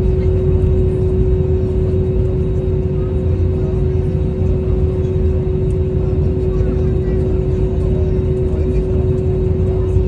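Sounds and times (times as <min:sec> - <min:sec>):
airliner engines rumbling: 0:00.0 - 0:10.0.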